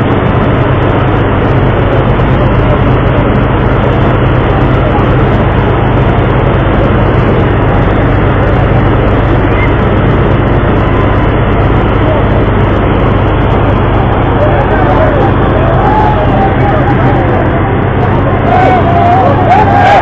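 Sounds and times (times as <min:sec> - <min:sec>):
rushing wind and water: 0:00.0 - 0:20.0
ship engine humming: 0:00.0 - 0:20.0.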